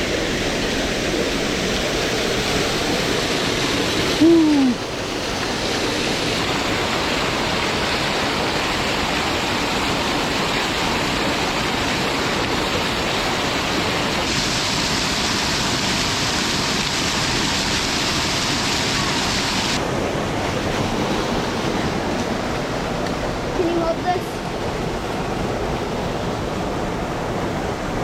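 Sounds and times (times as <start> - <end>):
fast-flowing water rushing: 0.0 - 28.0.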